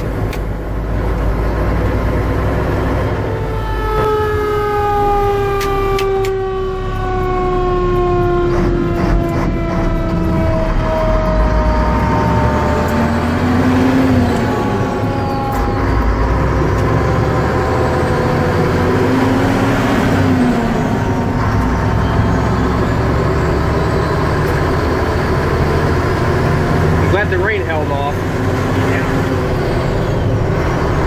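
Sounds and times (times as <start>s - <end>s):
truck diesel engine rumbling: 0.0s - 31.0s.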